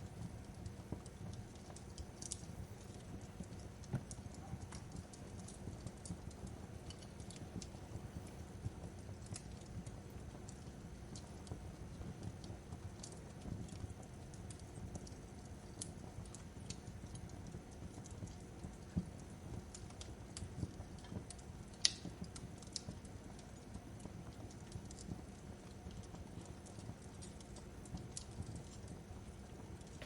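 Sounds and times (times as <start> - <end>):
fireplace crackling: 0.0 - 30.0.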